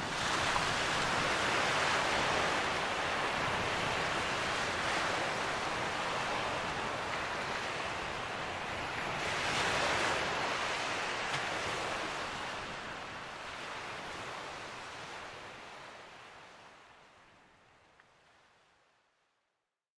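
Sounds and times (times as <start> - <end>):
sea waves rushing: 0.0 - 16.7.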